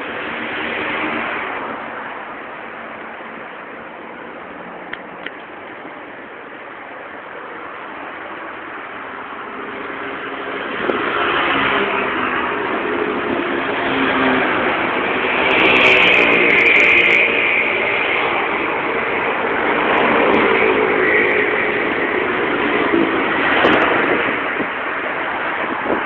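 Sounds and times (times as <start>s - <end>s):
passing vehicles rushing: 0.0s - 26.0s.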